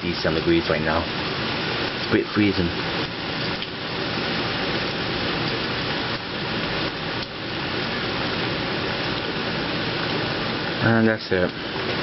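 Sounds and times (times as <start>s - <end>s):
heavy rain on roof: 0.0s - 12.0s.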